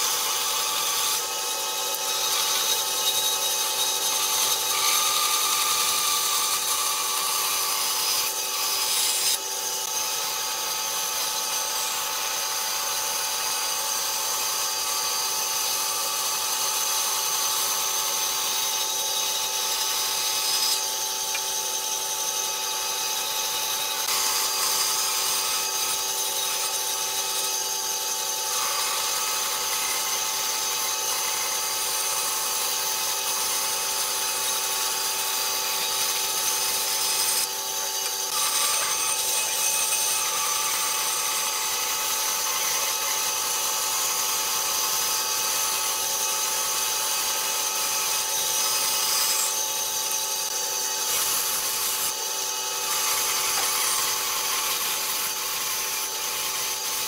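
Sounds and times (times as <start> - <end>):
bandsaw cutting wood: 0.0 - 57.0.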